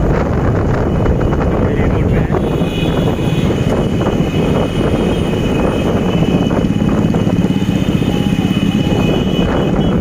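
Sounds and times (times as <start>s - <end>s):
engine and tyre noise: 0.0s - 10.0s
wind rumbling on microphone: 0.0s - 10.0s.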